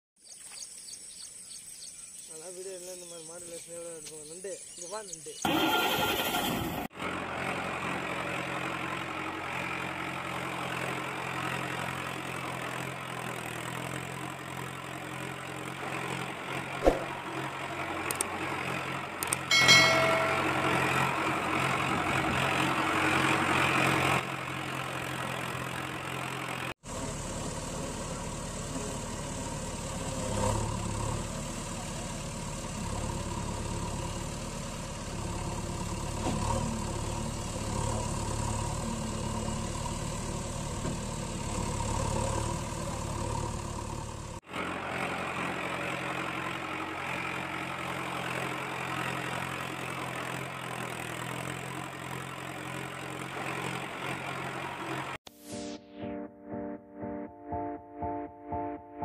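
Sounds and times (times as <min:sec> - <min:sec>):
vehicle engine idling: 0:05.4 - 0:55.2.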